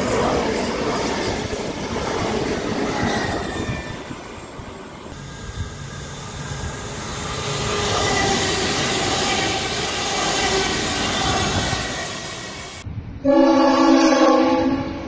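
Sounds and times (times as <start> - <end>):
train wheels rushing on track: 0.0 - 12.9
steady train whine: 0.0 - 15.0.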